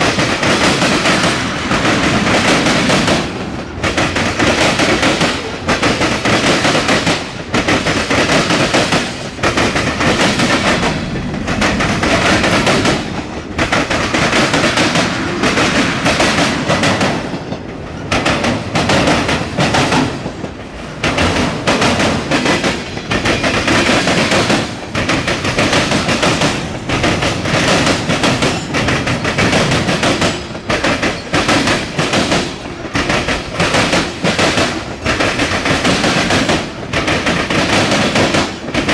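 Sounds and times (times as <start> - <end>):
freight train rolling past: 0.0 - 38.9
wheels clacking over rail joints: 0.0 - 38.9.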